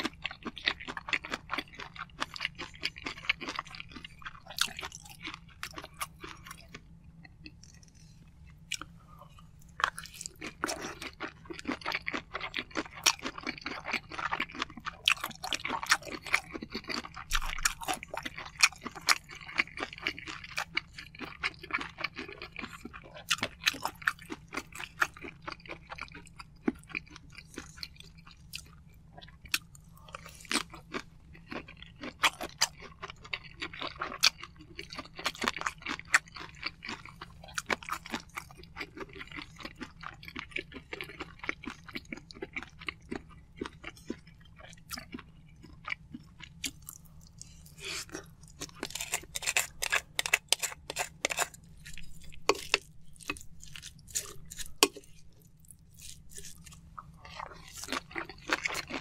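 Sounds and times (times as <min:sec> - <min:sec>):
wet chewing with mouth clicks: 0:00.0 - 0:59.0.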